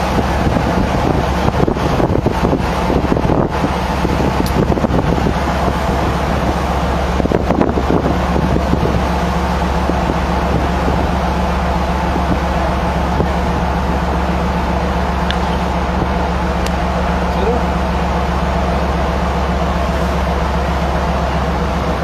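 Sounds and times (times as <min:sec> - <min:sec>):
ship engines humming: 0:00.0 - 0:22.0
wind rushing over microphone: 0:00.0 - 0:22.0.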